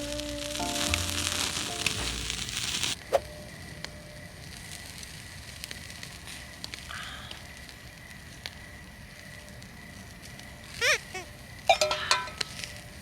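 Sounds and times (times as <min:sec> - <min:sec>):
fire popping: 0:00.0 - 0:13.0
hiss: 0:00.0 - 0:13.0
wood fire crackling: 0:00.0 - 0:13.0.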